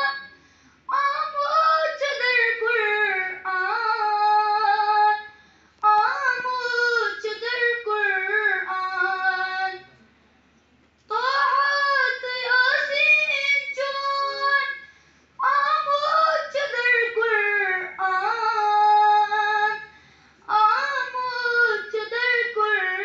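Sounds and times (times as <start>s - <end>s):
boy singing unaccompanied: 0.9s - 9.9s, 11.1s - 14.8s, 15.4s - 19.8s, 20.5s - 23.0s.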